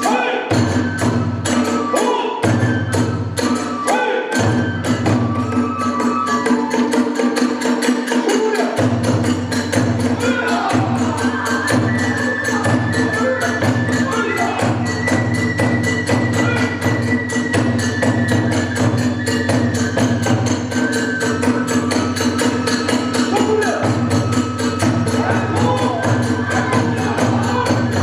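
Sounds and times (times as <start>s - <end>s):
bamboo flute high notes: 0.0s - 8.8s, 10.1s - 28.0s
drums beating: 0.0s - 28.0s.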